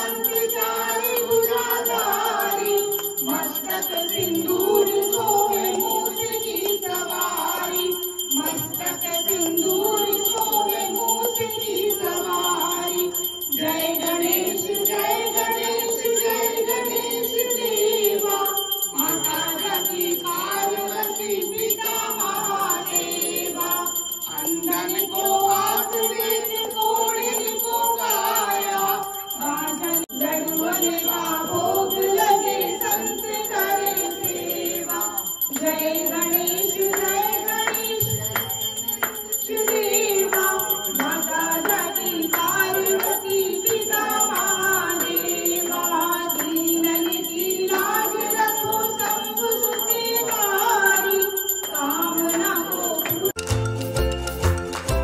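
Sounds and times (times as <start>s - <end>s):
bell ringing: 0.0s - 55.0s.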